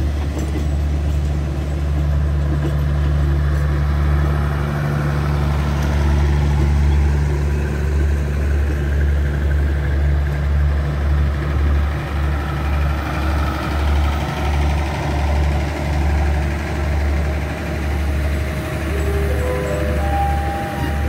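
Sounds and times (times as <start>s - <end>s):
train diesel engine rumble: 0.0s - 21.0s.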